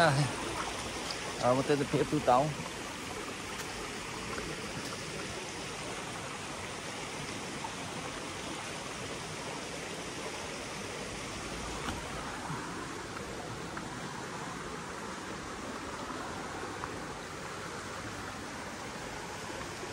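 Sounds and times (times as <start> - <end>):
creek water babbling over rocks: 0.0 - 19.9.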